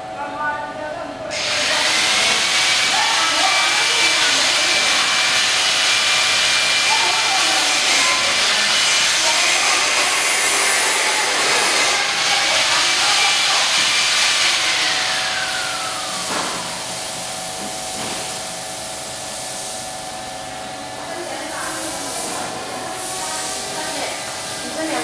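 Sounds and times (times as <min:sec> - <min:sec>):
machine hiss with high whine: 0:01.3 - 0:25.0.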